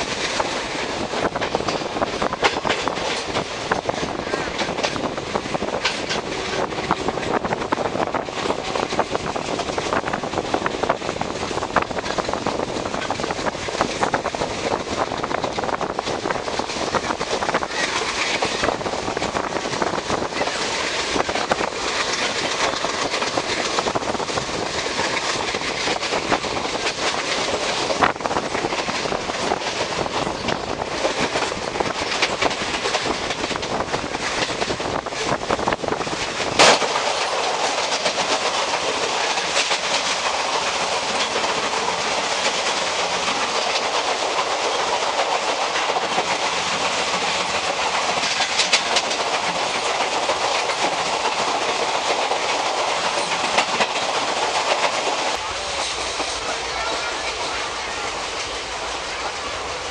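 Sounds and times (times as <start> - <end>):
train rumble and rush: 0.0 - 59.9
wheels clacking over rails: 0.0 - 59.9.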